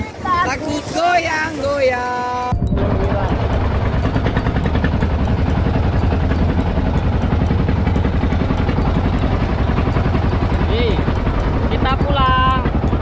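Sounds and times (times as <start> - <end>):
motorboat engine chugging: 0.0 - 13.0.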